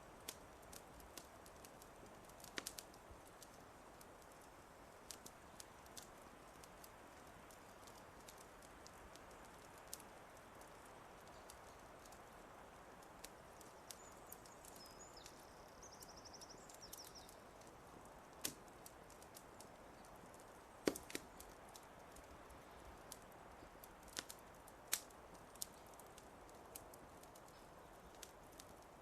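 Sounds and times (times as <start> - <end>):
fire popping: 0.0 - 29.0
wood fire crackling: 0.0 - 29.0.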